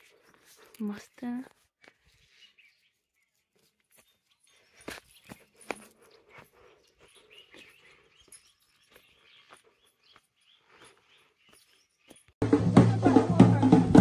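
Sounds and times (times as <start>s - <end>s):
birds chirping: 0.0s - 12.4s.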